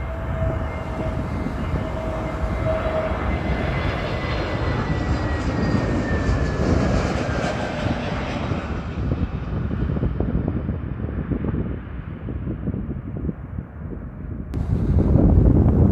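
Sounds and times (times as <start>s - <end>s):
jet airliner passing overhead: 0.0s - 15.9s.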